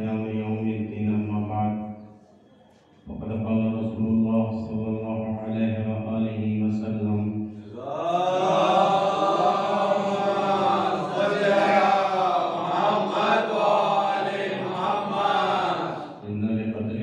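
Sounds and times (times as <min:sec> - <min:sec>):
person chanting melodically: 0:03.1 - 0:16.9.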